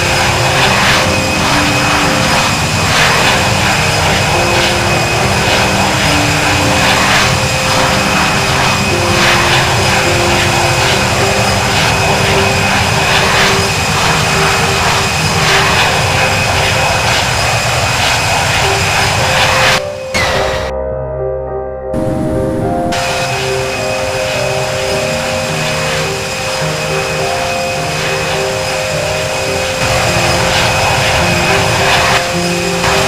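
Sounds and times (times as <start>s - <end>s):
jet engines roaring with whine: 0.0s - 20.7s, 22.0s - 33.0s.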